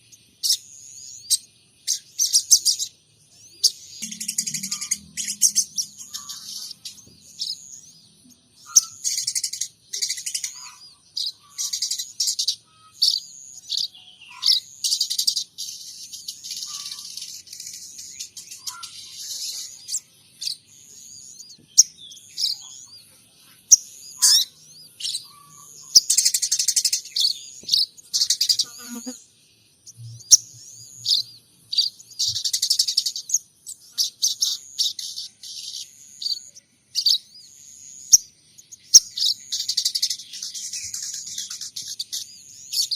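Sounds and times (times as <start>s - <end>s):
songbird chirps and trills: 0.0s - 42.9s.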